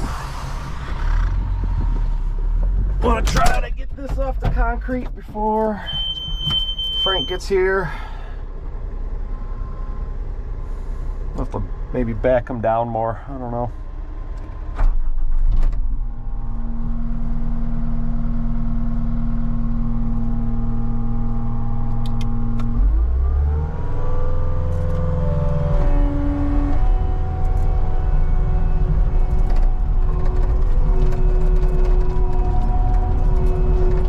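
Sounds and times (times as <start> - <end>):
diesel engine running and revving: 0.0 - 6.4, 7.0 - 34.0.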